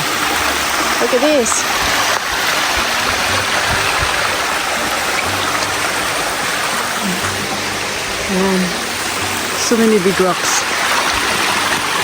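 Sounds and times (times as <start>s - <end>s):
low bumps: 0.0s - 12.0s
water rushing over rocks: 0.0s - 12.0s.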